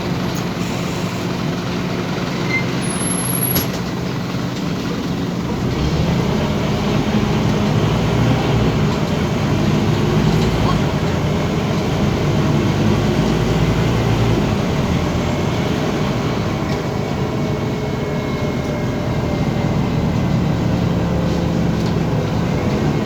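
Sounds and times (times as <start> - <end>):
bus diesel engine: 0.0 - 23.0
road noise: 0.0 - 23.0.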